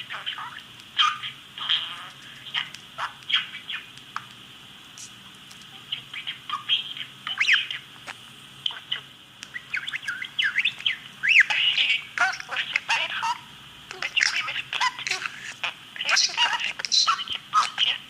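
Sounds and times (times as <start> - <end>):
bird chirping and squawking: 0.0 - 4.0, 5.8 - 18.0.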